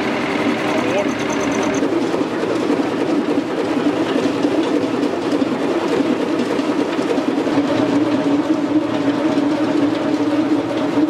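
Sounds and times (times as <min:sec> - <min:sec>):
engine mechanical clatter: 0:00.0 - 0:11.0.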